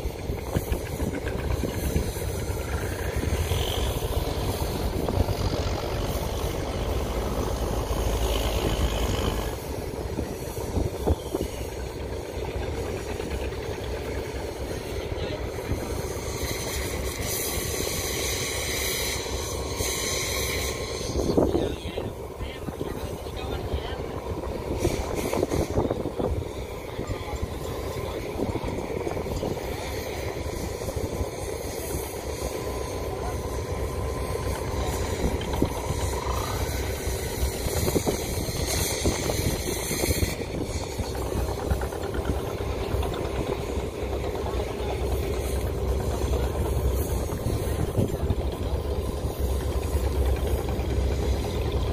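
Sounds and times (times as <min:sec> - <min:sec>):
diesel engine rumbling: 0:00.0 - 0:51.9
hiss: 0:00.0 - 0:51.9.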